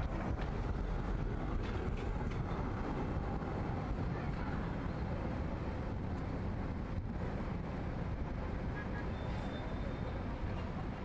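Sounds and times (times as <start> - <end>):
street traffic rumble: 0.0 - 11.0
tram running on track: 0.0 - 11.0.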